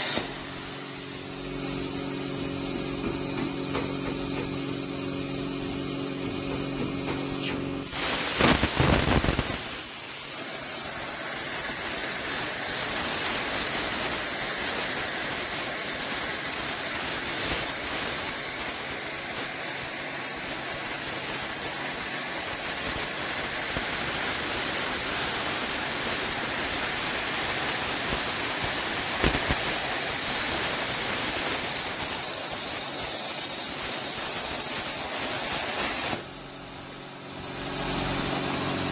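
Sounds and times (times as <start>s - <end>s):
plasma arc striking click: 0.0s - 36.6s
plasma cutter arc hissing: 0.0s - 38.9s.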